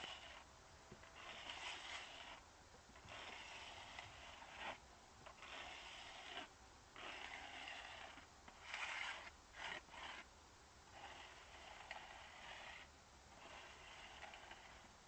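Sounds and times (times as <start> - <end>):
rasping scraping on gritty surface: 0.0 - 2.4, 3.0 - 10.3, 10.9 - 15.0.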